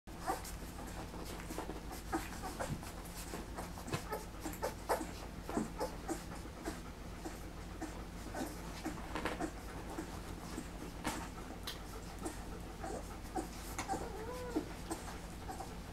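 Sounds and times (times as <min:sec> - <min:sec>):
puppies suckling: 0:00.1 - 0:15.9
puppies squeaking and whimpering: 0:00.2 - 0:11.3, 0:12.1 - 0:15.9.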